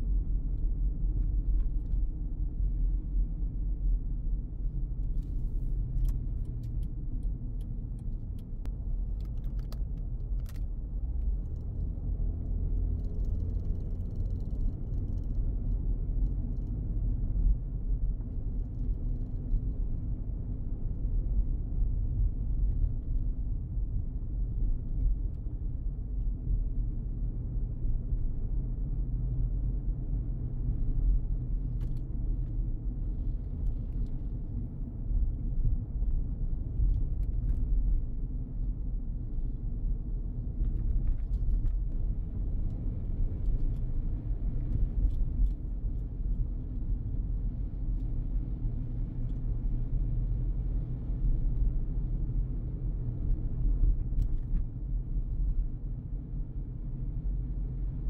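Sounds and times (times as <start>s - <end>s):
car driving rumble: 0.1s - 58.0s.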